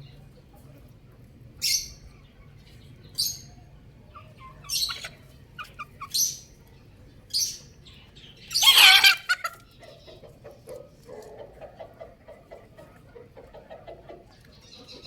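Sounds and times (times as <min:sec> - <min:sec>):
chicks chirping: 0:00.0 - 0:15.0.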